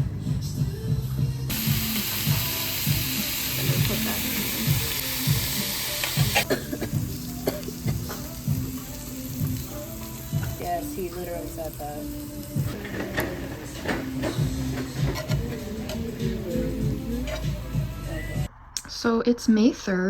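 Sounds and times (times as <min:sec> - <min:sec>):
meat sizzling on a grill: 0:01.5 - 0:18.5.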